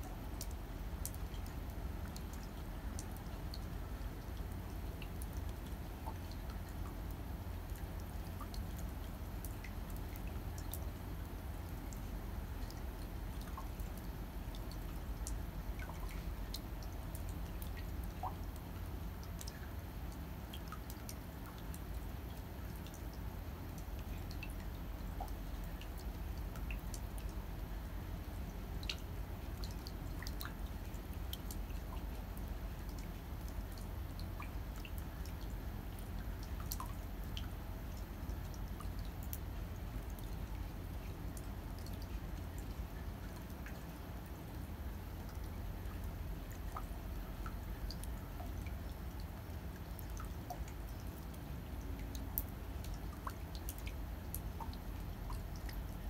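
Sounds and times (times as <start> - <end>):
low background noise: 0.0 - 56.0
rain drops ticking: 0.0 - 56.0.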